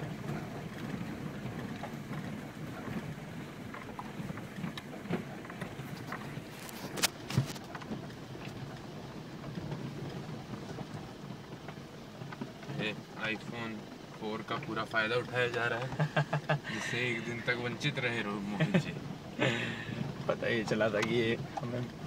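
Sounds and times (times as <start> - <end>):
engine and tyres rumbling: 0.0 - 22.0.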